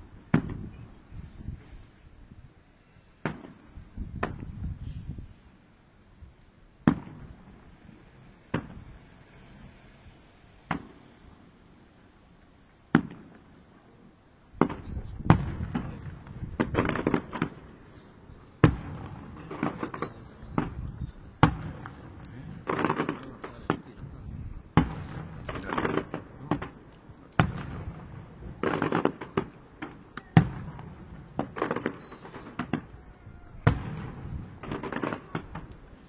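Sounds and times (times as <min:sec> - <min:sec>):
fireworks bangs and crackle: 0:00.0 - 0:05.8, 0:06.7 - 0:36.0.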